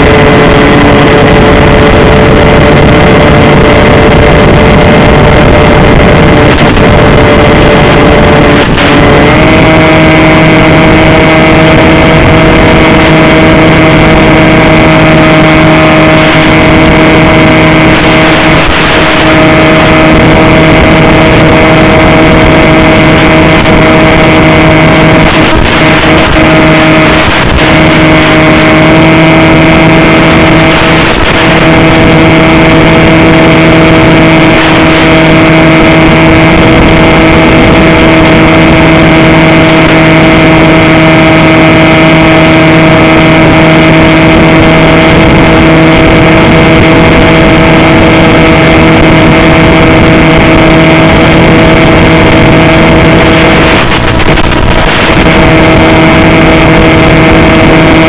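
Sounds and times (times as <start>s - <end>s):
electric motor and propeller drone: 0.0s - 58.0s.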